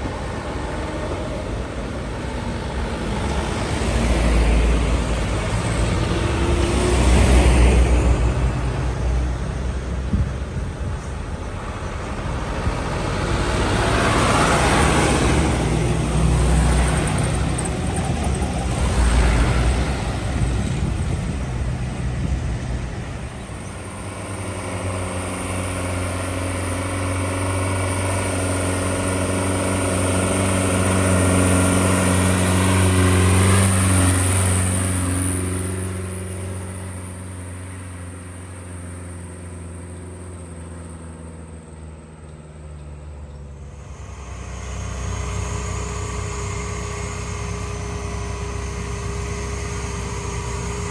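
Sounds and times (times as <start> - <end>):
heavy diesel vehicles passing: 0.0 - 50.9.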